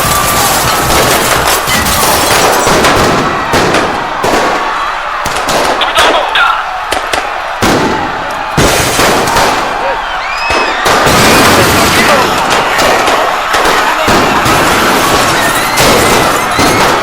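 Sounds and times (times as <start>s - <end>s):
sharp bangs and cracks: 0.0s - 17.0s.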